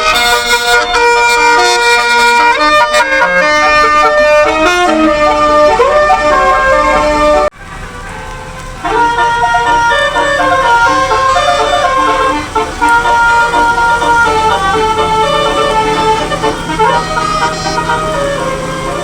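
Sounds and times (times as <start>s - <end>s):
multi-tone bus horn tune: 0.0s - 19.0s.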